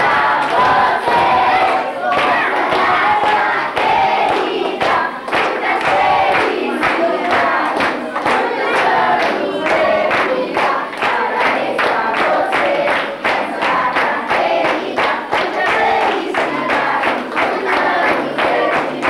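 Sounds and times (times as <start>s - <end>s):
children clapping in time: 0.0s - 19.0s
children singing together: 0.0s - 19.0s.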